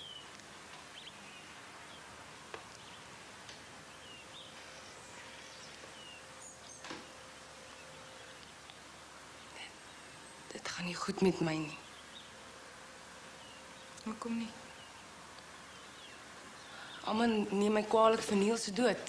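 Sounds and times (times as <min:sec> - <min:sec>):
background hiss: 0:00.0 - 0:19.0
faint steady hum: 0:00.0 - 0:19.0.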